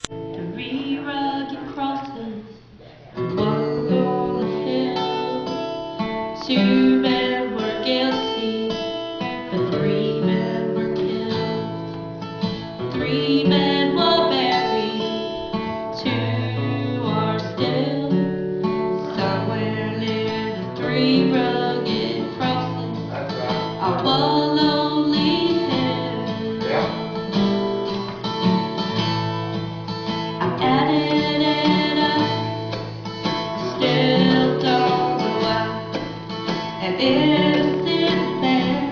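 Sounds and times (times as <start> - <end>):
acoustic guitar song: 0.0 - 38.9.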